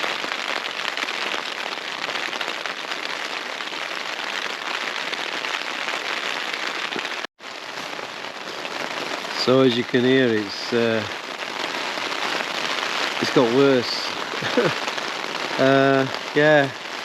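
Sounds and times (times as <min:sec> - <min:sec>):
heavy rain on tent: 0:00.0 - 0:17.0.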